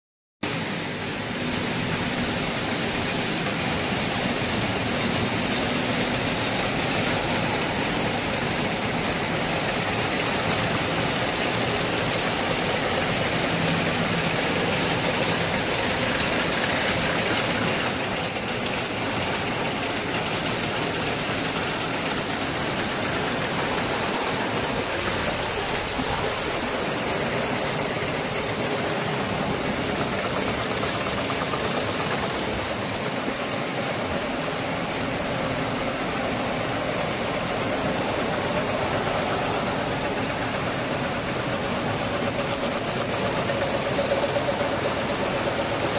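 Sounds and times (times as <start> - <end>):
weaving looms running: 0.4 - 45.9.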